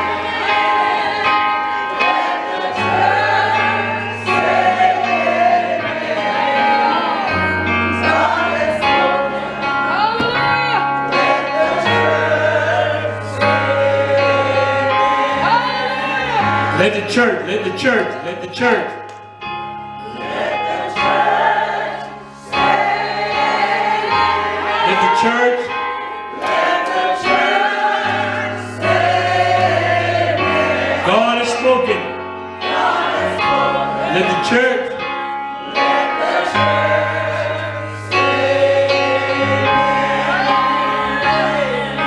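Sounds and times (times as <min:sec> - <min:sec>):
gospel choir singing: 0:00.0 - 0:42.0.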